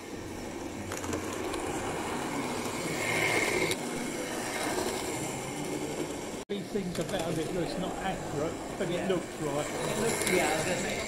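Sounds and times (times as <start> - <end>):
faint motor whine: 0.0 - 11.0
model train wheels rumbling: 0.0 - 11.0.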